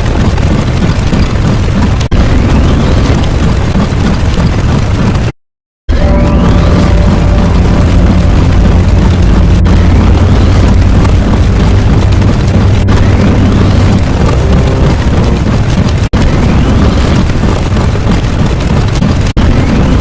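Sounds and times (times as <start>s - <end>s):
explosion-like rumbling: 0.0s - 5.3s, 5.9s - 20.0s.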